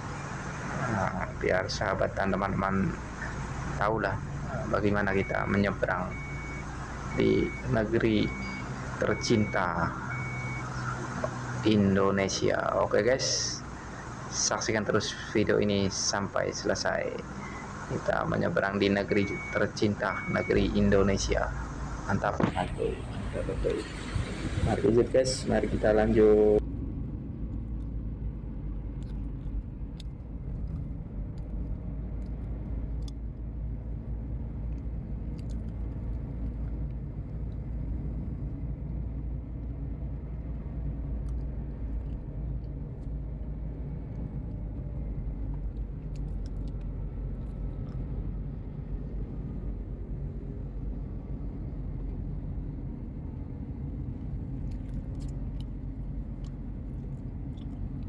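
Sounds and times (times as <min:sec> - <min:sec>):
ferry engines deep rumble: 0:00.0 - 0:58.0.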